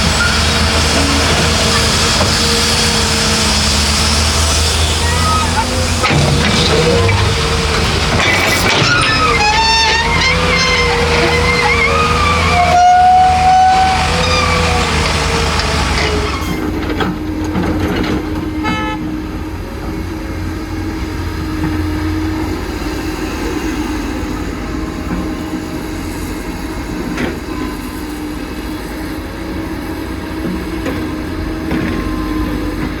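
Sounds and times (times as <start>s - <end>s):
diesel engine humming: 0.0s - 27.2s.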